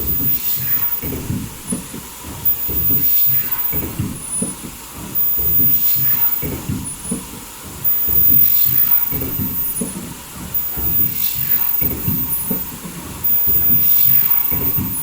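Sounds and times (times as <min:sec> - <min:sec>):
air hissing: 0:00.0 - 0:15.0
high thin machine whine: 0:00.0 - 0:15.0
machine clatter: 0:00.0 - 0:15.0.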